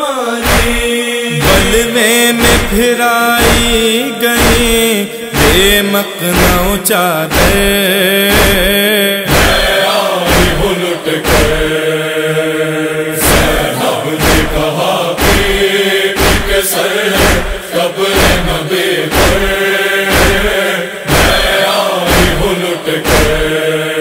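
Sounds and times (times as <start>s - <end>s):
voices singing a lament chant: 0.0s - 24.0s
heavy rhythmic thumps: 0.4s - 24.0s.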